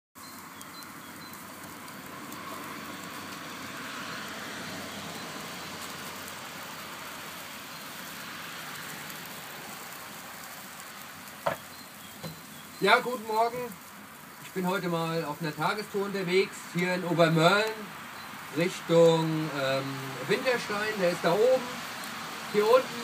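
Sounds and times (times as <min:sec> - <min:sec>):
road traffic: 0:00.2 - 0:23.0
vehicle passing: 0:00.3 - 0:23.0.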